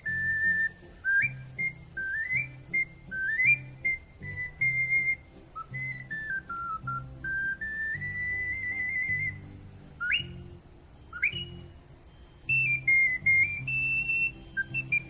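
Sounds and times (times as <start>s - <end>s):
low musical accompaniment: 0.0s - 15.0s
ocarina melody: 0.0s - 15.0s.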